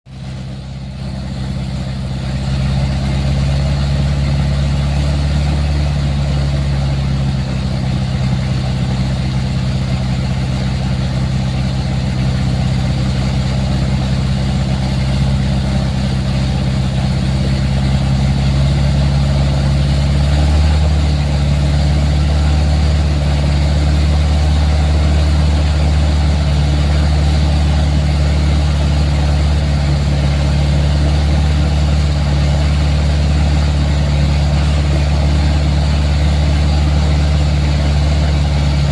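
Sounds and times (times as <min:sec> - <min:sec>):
ploughing machine engine drone: 0:00.1 - 0:38.9.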